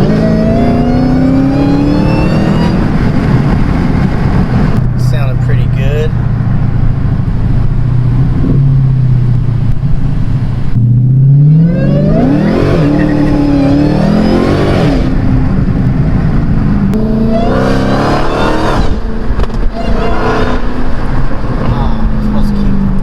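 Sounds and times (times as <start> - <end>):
car exhaust revving: 0.0 - 23.0.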